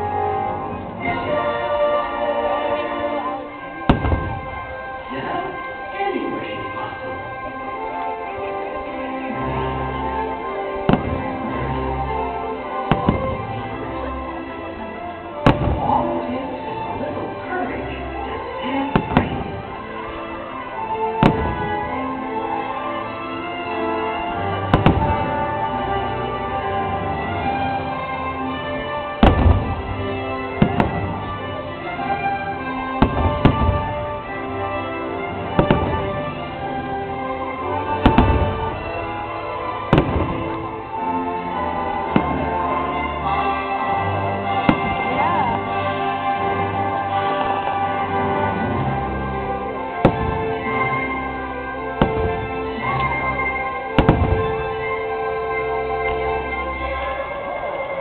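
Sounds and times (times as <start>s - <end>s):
fireworks bangs: 0.0s - 8.7s, 9.5s - 58.0s
show music: 0.0s - 58.0s.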